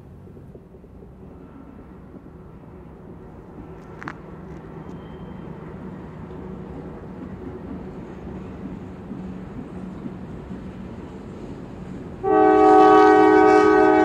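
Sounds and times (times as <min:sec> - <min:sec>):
diesel locomotive engine humming: 0:00.0 - 0:14.0.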